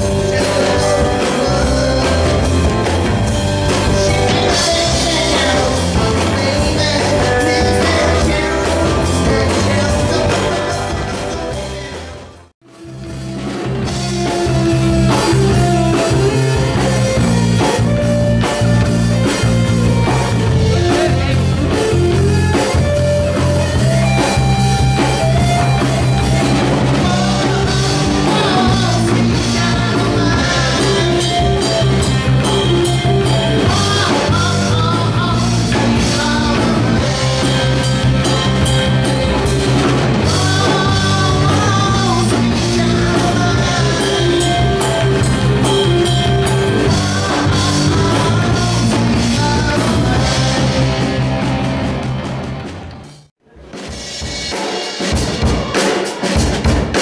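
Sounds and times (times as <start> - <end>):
person singing: 0.0 - 12.4, 14.2 - 51.2
electric bass guitar: 0.0 - 53.3
electric guitar: 0.0 - 53.3
drum kit: 0.0 - 57.0.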